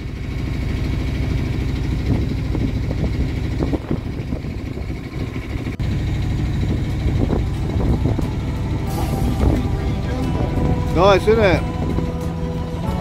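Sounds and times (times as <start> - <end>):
boat diesel engine rumbling: 0.0 - 13.0.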